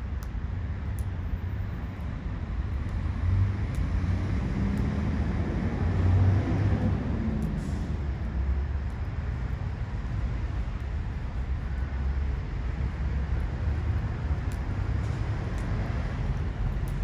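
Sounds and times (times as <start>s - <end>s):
faint fire pops: 0.0s - 17.0s
firewood burning: 0.0s - 17.0s.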